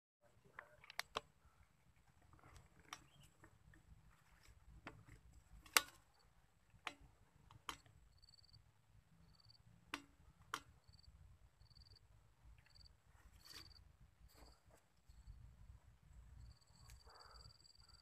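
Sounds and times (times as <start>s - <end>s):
outdoor background noise: 0.2s - 18.0s.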